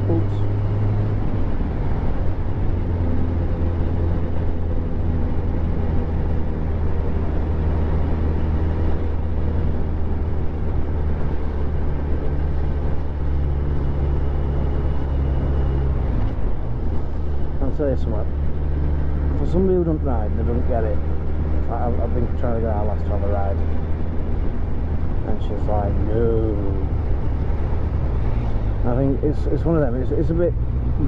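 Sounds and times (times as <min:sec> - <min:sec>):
motorcycle engine cruising: 0:00.0 - 0:31.0
rushing wind and road noise: 0:00.0 - 0:31.0.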